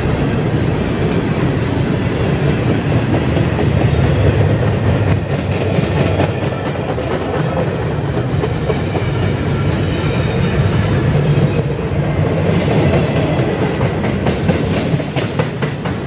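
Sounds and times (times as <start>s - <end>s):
freight train rumbling past: 0.0s - 16.0s
steel wheels clattering on rails: 0.0s - 16.0s.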